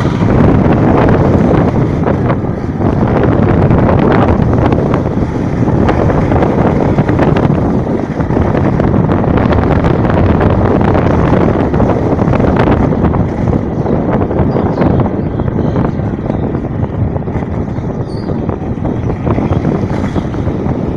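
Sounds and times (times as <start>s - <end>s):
heavy rain pouring: 0.0s - 17.9s
wind rumbling on microphone: 0.0s - 20.9s.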